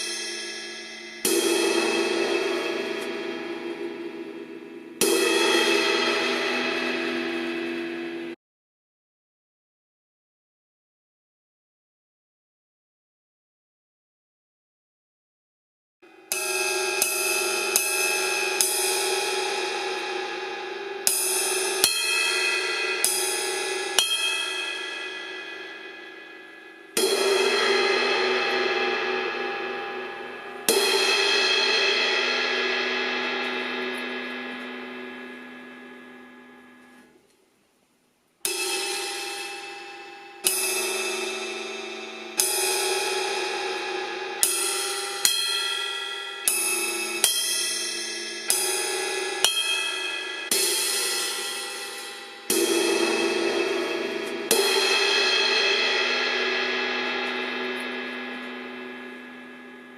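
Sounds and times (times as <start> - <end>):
crash cymbal struck: 0.0 - 8.4, 16.1 - 37.2, 38.4 - 59.9.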